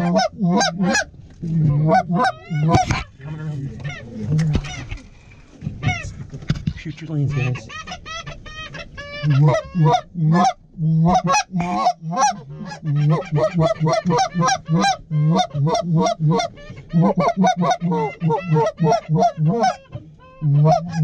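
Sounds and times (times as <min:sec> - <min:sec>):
goose calls honking: 0:00.0 - 0:04.9, 0:07.2 - 0:21.0.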